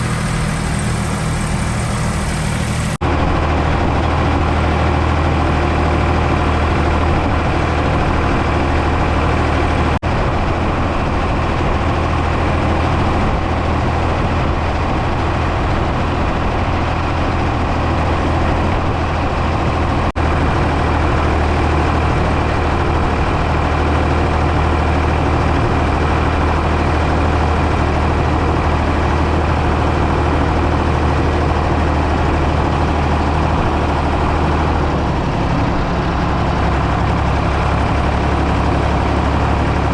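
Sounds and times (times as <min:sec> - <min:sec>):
backhoe engine humming: 0:00.0 - 0:39.9.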